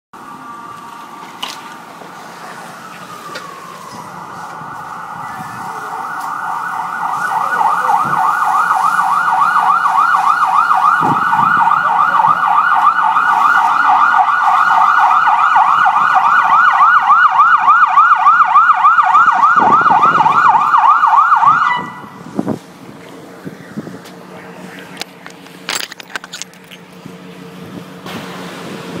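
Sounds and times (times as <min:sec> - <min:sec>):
fire engine siren yelping: 0:00.2 - 0:29.0.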